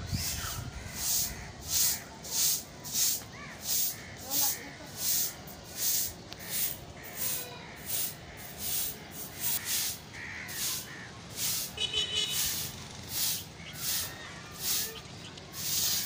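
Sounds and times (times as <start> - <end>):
broom sweeping concrete floor: 0.1 - 16.0.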